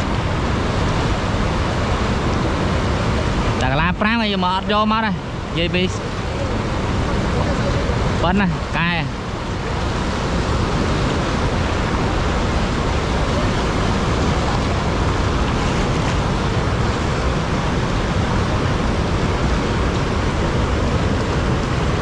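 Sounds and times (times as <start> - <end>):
floodwater rushing and churning: 0.0 - 22.0.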